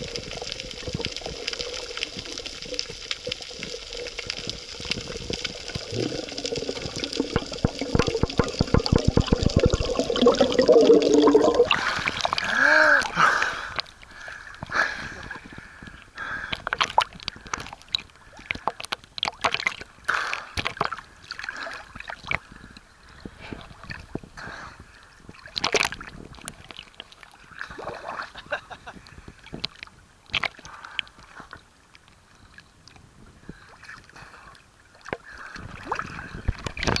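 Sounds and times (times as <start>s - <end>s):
sea water sloshing and splashing: 0.0s - 28.6s, 32.9s - 37.0s.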